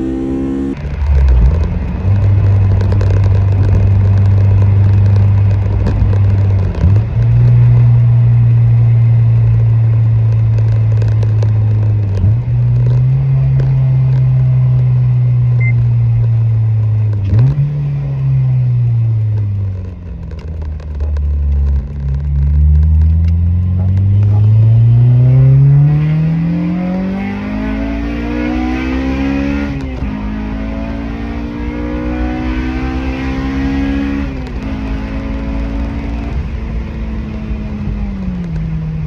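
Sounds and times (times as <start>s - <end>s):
car engine at raised revs: 0.0s - 39.0s.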